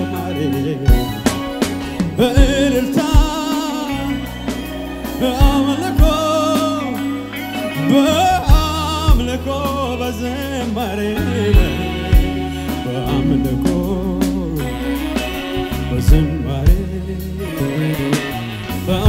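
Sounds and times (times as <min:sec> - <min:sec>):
band with drums guitar and bass: 0:00.0 - 0:19.0
man singing with vibrato: 0:00.0 - 0:19.0.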